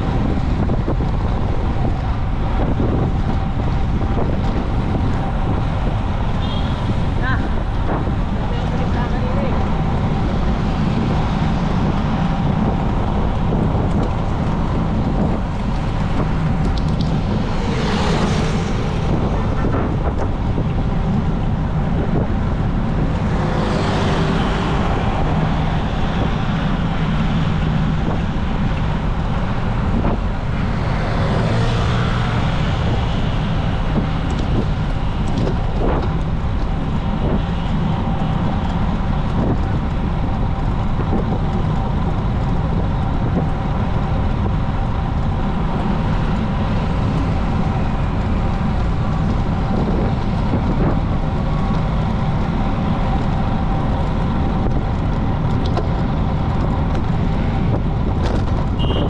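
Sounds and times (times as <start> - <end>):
road rumble: 0.0 - 59.0
vehicles passing: 0.0 - 59.0
wind on microphone: 0.0 - 59.0.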